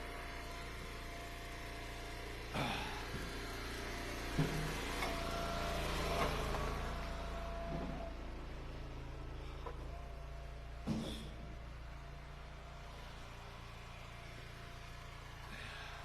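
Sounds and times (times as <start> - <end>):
gas engine running: 0.0 - 16.0.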